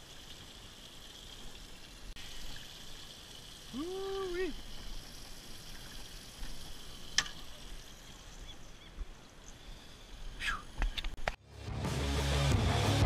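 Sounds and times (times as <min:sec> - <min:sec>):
water and wind hiss: 0:00.0 - 0:11.4.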